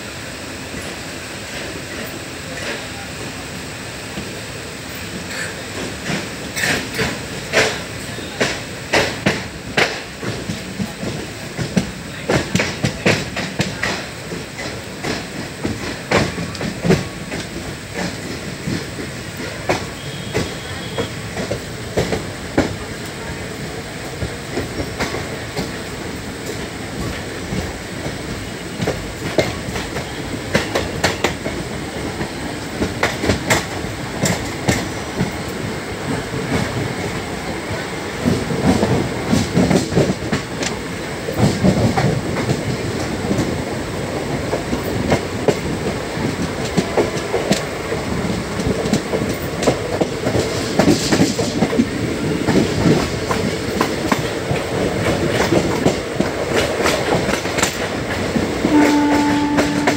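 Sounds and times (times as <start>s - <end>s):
train wheels clicking over rail joints: 4.1s - 59.9s.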